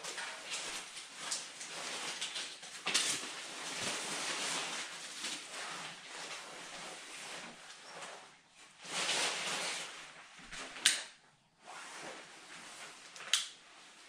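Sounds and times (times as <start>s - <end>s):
rustling of fire-starting material: 0.0s - 10.8s, 11.6s - 14.0s.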